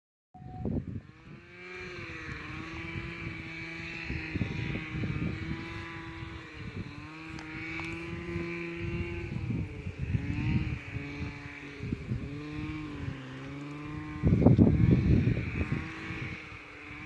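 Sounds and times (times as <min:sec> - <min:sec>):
small engine running: 0:00.4 - 0:17.0
wind rumble on microphone: 0:00.4 - 0:17.0.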